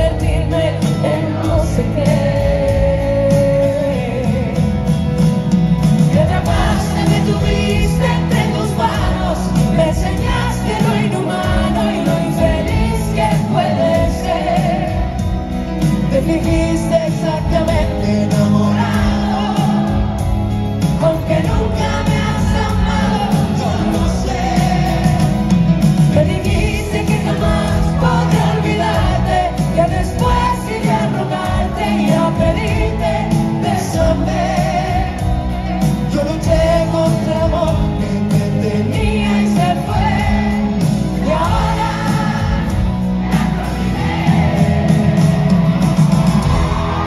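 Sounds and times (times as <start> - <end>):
person singing: 0.0 - 5.1, 6.0 - 47.0
live pop band music: 0.0 - 47.0.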